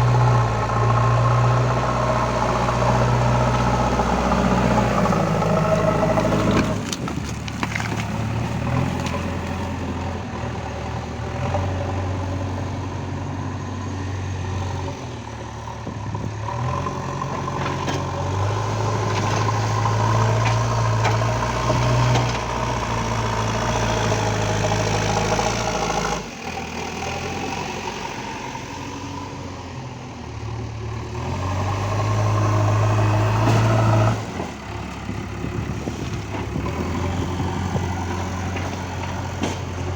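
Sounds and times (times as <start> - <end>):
diesel engine revving under load: 0.0 - 39.9.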